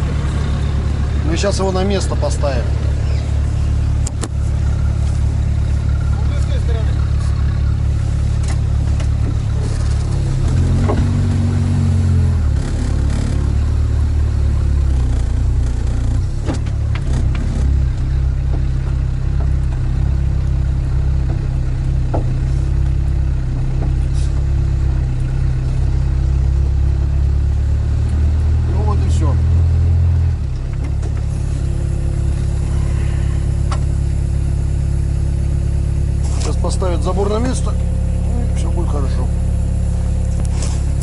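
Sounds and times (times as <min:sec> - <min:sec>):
diesel engine low hum: 0:00.0 - 0:41.0.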